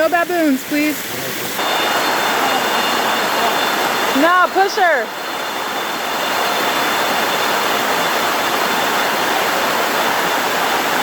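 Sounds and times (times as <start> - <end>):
waterfall rushing and splashing: 0.0 - 11.0.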